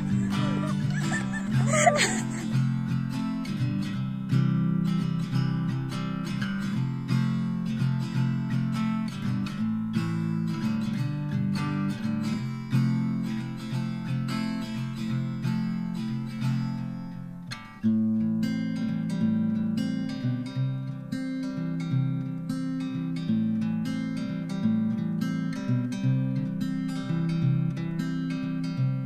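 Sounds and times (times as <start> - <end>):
strummed acoustic guitar music: 0.0 - 29.0.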